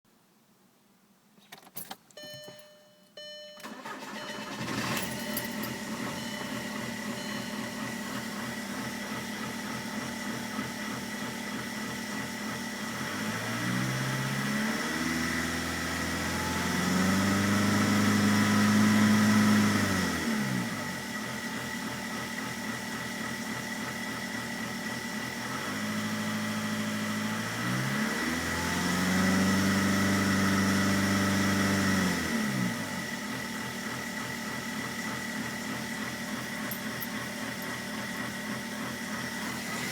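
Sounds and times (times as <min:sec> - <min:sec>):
diesel engine idling and revving: 0:03.2 - 0:39.9.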